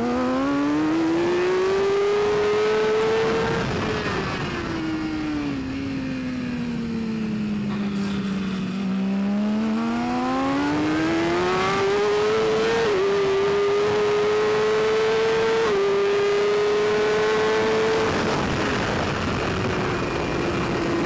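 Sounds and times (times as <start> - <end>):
motorbike engine at high revs: 0.0 - 21.0.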